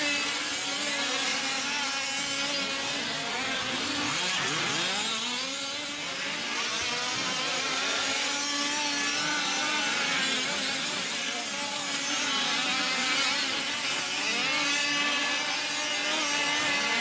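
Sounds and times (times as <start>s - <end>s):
small engines buzzing and revving: 0.0s - 17.0s.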